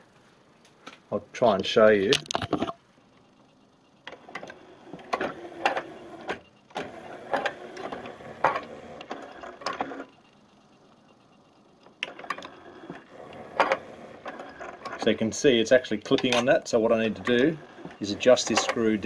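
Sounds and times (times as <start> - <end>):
disc carousel mechanical whirr: 1.4 - 19.0.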